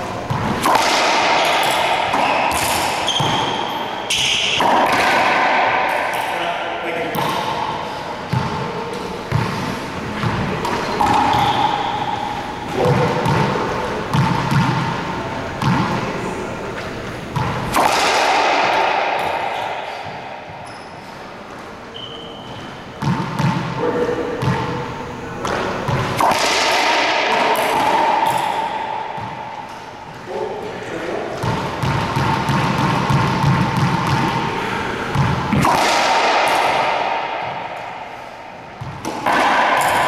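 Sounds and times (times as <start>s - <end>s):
racquetball hits echoing: 0.0s - 30.5s, 31.2s - 40.0s.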